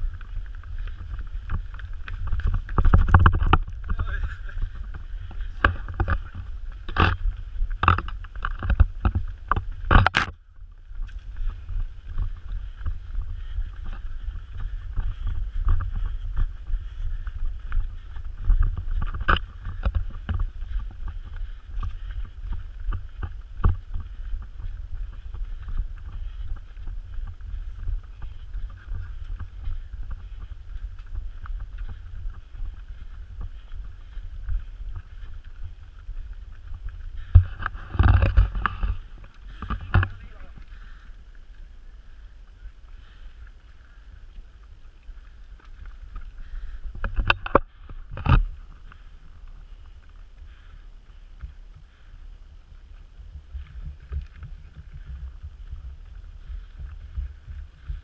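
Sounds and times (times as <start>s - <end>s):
footfalls on dirt trail: 0.0s - 58.0s
wind rumbling on microphone: 0.0s - 58.0s.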